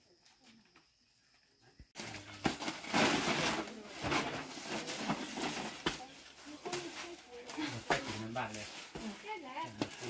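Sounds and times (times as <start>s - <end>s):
large leaves rustling and crackling: 1.9s - 10.0s.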